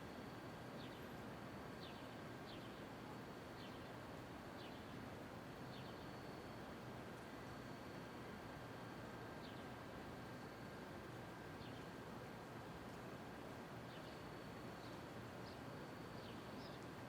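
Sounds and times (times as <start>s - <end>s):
low hum of street ambience: 0.0s - 17.0s.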